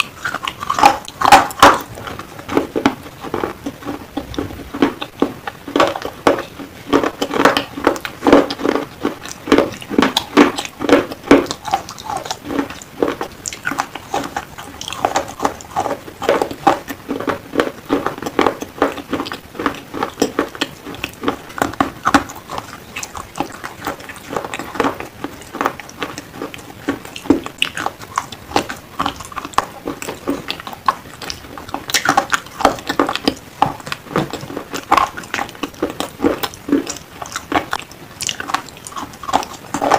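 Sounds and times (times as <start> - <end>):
person chewing crunchy pencils: 0.0 - 39.9.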